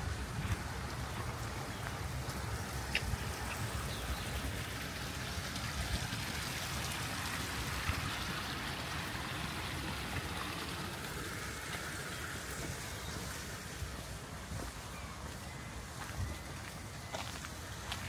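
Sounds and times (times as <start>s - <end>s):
outdoor hiss: 0.0s - 18.0s.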